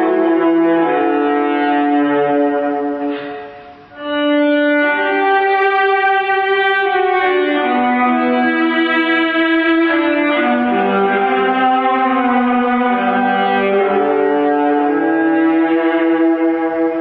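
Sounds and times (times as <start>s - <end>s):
bowed viola notes: 0.0s - 17.0s.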